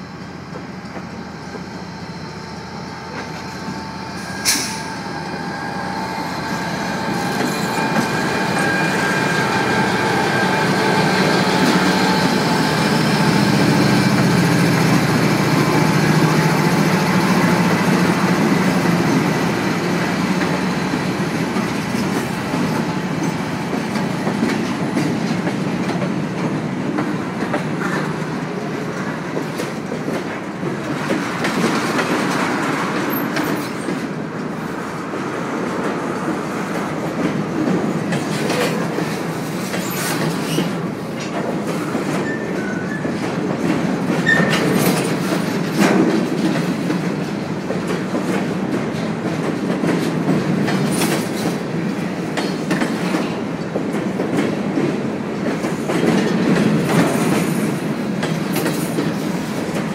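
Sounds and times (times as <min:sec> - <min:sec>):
diesel locomotive drone: 0:00.0 - 0:59.9
train wheels clacking over rail joints: 0:06.6 - 0:34.6, 0:35.8 - 0:59.9.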